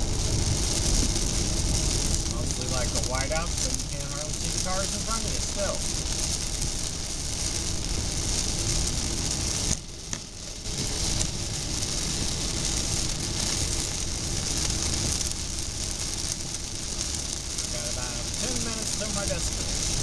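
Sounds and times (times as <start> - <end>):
heavy rain on car roof: 0.0 - 20.0
tyre and road noise: 0.0 - 20.0.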